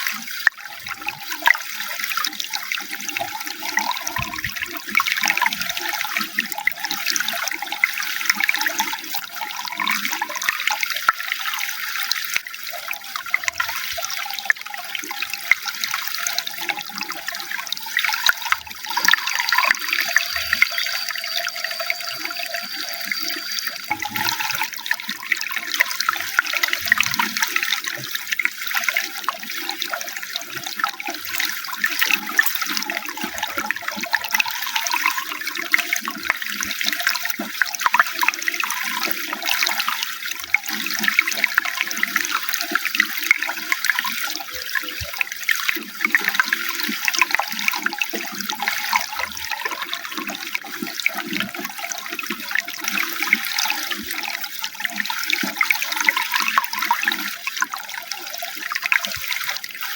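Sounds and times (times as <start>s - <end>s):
running water splashing: 1.7s - 59.9s.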